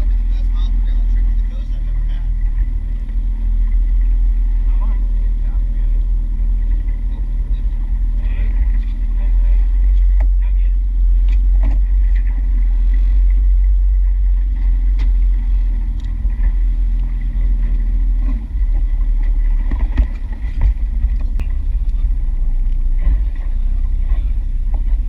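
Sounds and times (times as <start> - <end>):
outboard engine rumble: 0.0 - 25.0.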